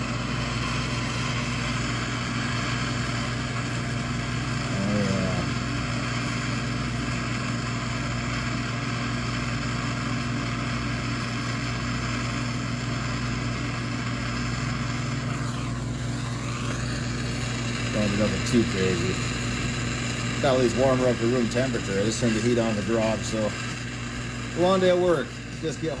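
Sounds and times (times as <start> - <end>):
hot-air blower running: 0.0 - 26.0.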